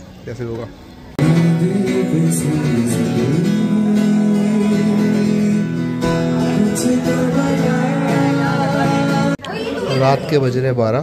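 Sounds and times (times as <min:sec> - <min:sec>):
acoustic guitar music: 0:01.1 - 0:10.5.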